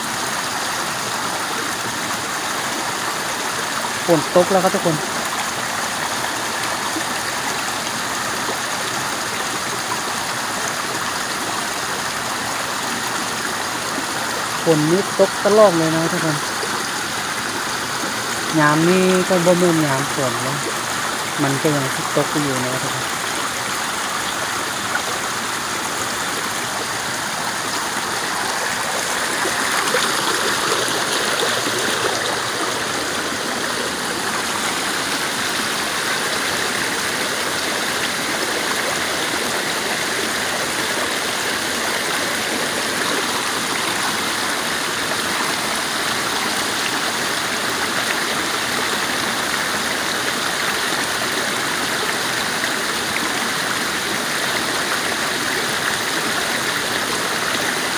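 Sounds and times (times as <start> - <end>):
stream splashing over cascade: 0.0 - 57.9.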